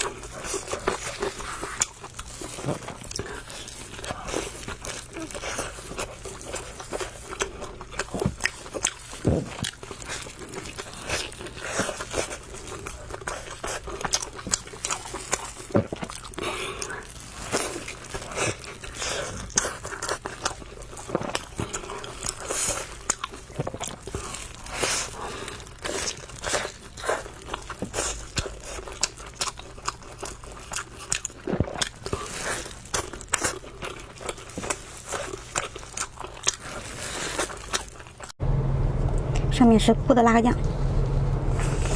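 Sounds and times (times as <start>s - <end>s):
person chewing noodles: 0.0s - 38.4s.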